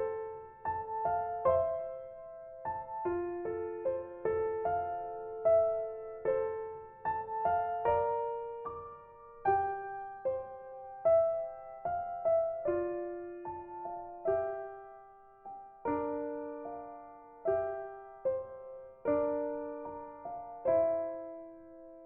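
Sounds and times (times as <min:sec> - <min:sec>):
slow gentle piano piece: 0:00.0 - 0:22.0.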